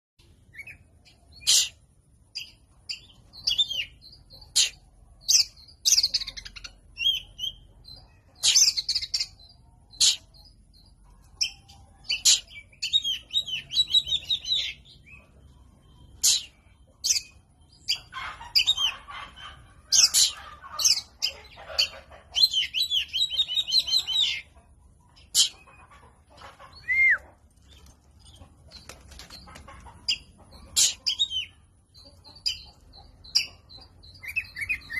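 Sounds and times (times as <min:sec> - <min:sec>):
bird whistling and twittering song: 0:00.4 - 0:34.9.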